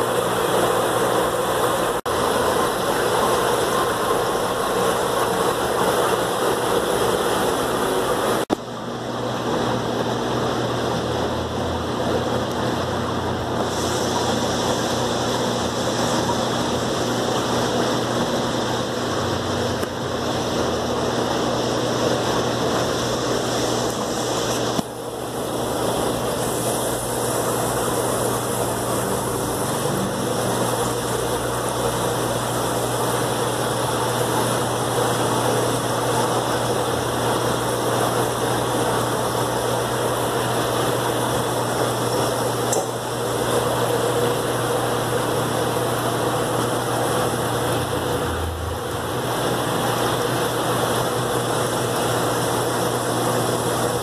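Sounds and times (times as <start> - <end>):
aquarium equipment humming and hissing: 0.0 - 54.0.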